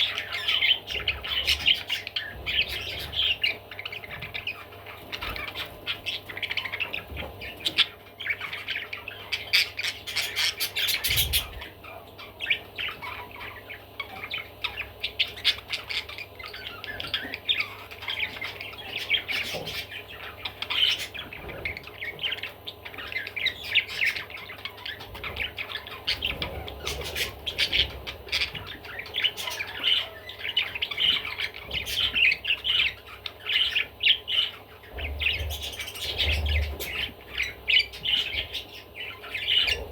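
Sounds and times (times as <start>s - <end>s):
budgerigar chattering: 0.0s - 39.9s.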